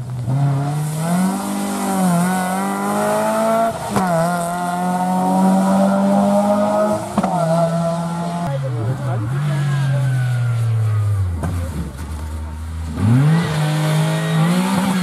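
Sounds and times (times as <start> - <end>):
rally car engine accelerating: 0.1 - 15.0.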